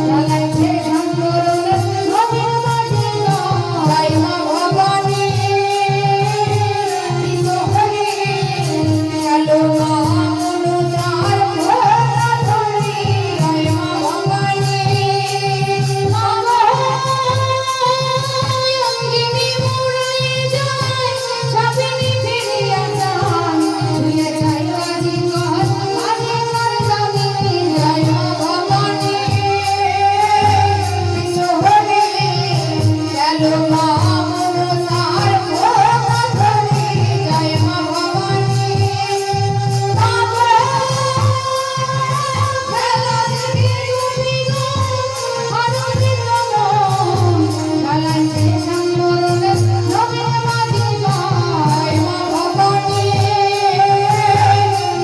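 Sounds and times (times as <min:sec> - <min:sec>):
hand drums beating: 0:00.0 - 0:55.0
person singing folk song: 0:00.0 - 0:55.0.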